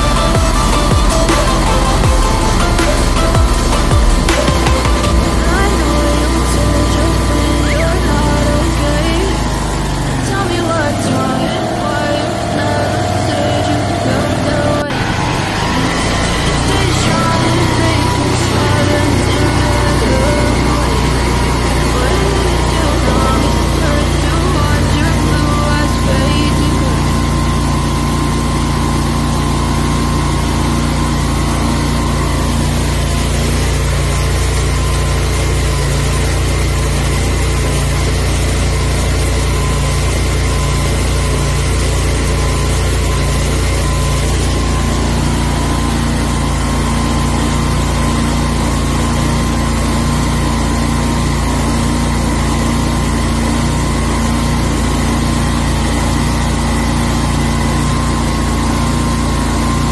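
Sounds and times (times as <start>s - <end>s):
gasoline engine running steadily: 0.0s - 59.9s.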